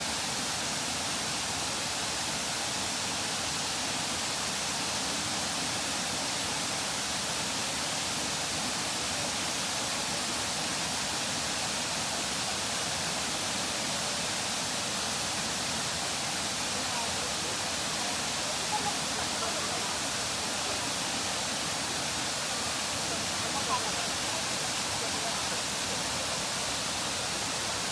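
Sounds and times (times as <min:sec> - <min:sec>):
waterfall roaring: 0:00.1 - 0:27.9.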